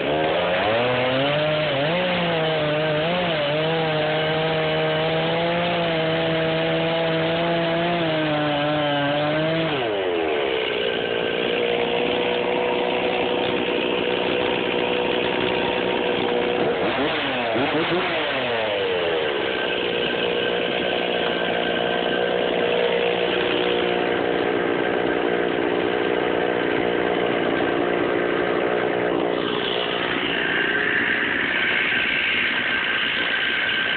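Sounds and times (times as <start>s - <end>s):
chainsaw cutting through log: 0.0s - 33.9s.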